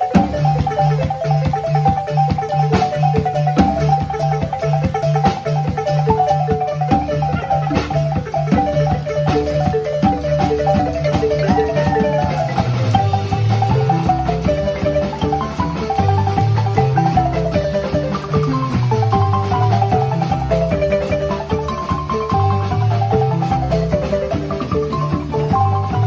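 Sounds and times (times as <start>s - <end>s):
bass marimba line: 0.0s - 26.0s
marimba mallet notes: 0.0s - 26.0s.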